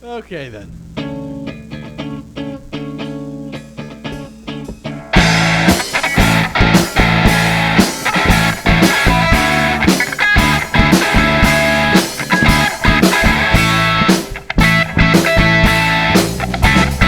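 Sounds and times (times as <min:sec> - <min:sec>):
pop-punk band playing live: 0:01.0 - 0:17.0.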